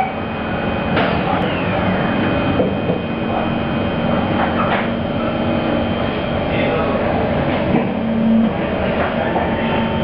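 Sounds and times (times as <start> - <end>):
train motors humming: 0.0 - 10.0.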